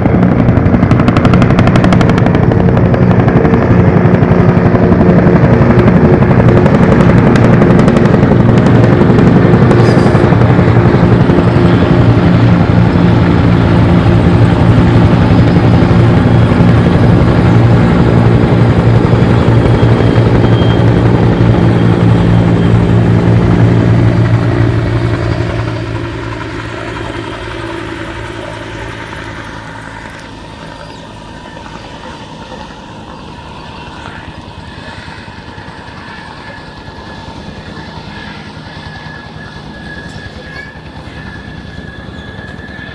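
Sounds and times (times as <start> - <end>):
helicopter rotor chop: 0.0 - 42.9.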